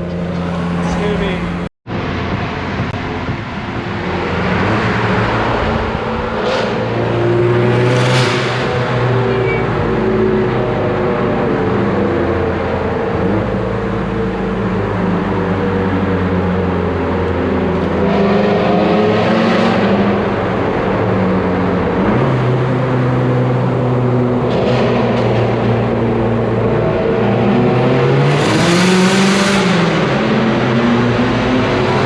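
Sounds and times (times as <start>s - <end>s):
car engine drone: 0.0s - 32.0s.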